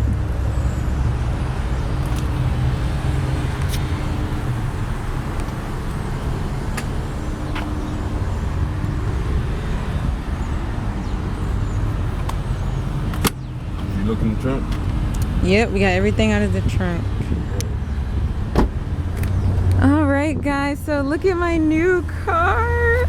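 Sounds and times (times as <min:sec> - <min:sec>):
motor vehicles rumbling: 0:00.0 - 0:23.0.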